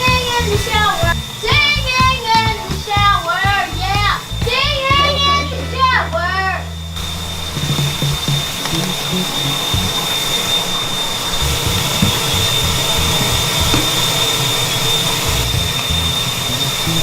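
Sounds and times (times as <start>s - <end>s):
shower water spraying: 0.0s - 5.9s, 7.0s - 17.0s.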